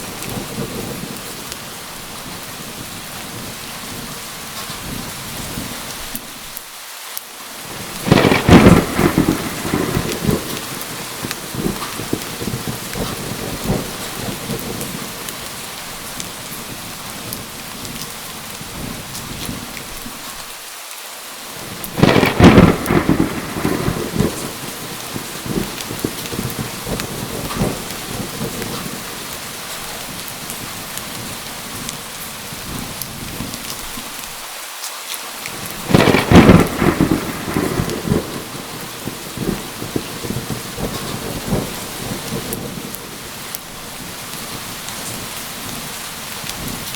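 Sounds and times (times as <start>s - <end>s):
thunderclaps: 0.0s - 1.6s, 7.7s - 20.0s, 21.6s - 34.0s, 35.5s - 46.9s
heavy rain: 0.0s - 46.9s.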